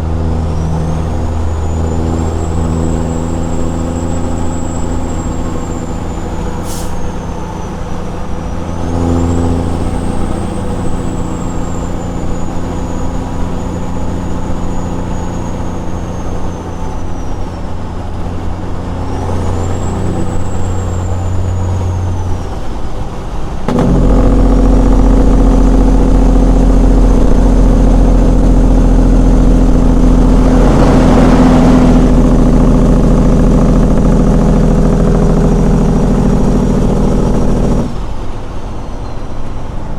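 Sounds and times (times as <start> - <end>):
high turbo whistle: 0.0 - 38.9
diesel truck engine running: 0.0 - 39.9.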